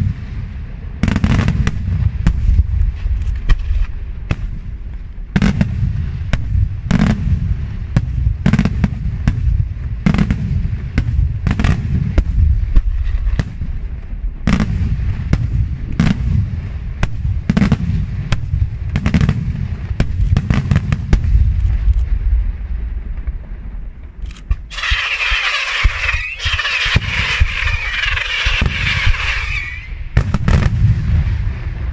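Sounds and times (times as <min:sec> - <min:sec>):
continuous low rumble: 0:00.0 - 0:31.9
fireworks bangs: 0:00.0 - 0:31.9.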